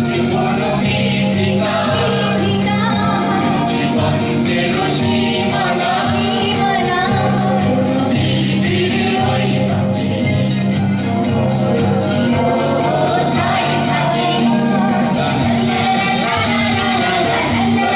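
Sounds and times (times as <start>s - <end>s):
steady percussion beat: 0.0s - 17.9s
sustained bass notes: 0.0s - 17.9s.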